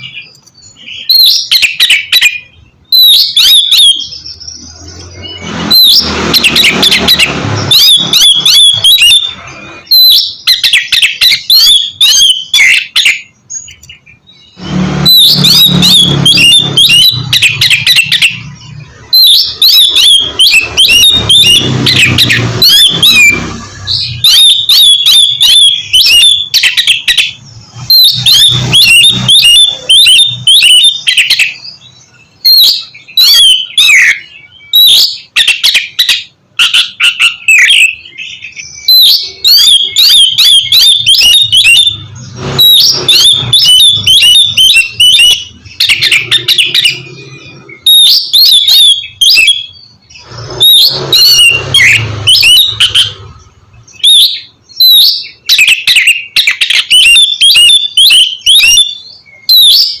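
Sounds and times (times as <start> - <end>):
bird singing whistles and chatters: 0.0 - 60.0.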